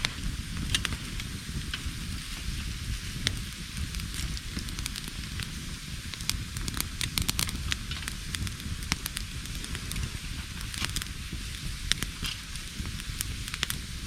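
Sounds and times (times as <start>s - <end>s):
campfire crackling and popping: 0.0s - 14.0s
low fire rumble: 0.0s - 14.0s.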